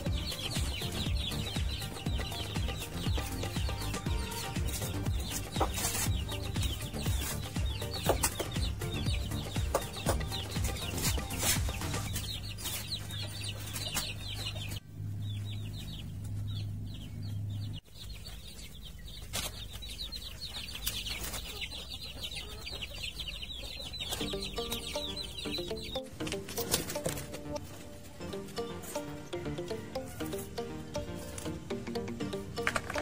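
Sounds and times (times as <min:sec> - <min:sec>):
chicks peeping: 0:00.0 - 0:33.0.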